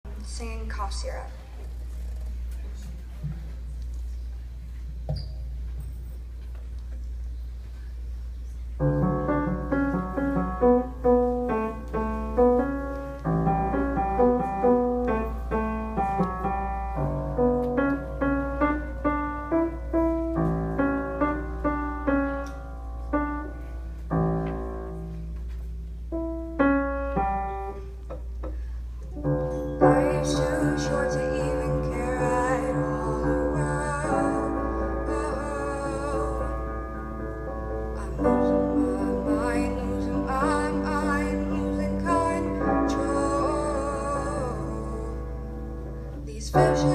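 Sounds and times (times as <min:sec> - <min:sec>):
piano playing notes and chords: 0:08.8 - 0:46.9.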